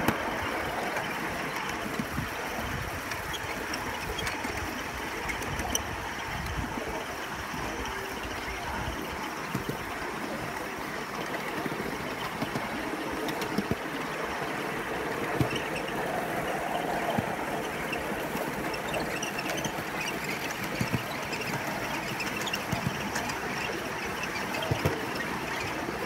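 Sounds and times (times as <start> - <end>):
miniature train rolling rumble: 0.0 - 26.0
wheels knocking on rail joints: 0.0 - 26.0.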